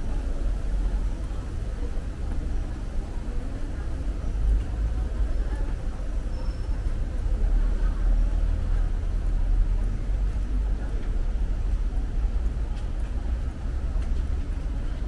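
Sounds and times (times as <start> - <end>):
faint voices of passers-by: 0.0 - 15.0
low city rumble: 0.0 - 15.0.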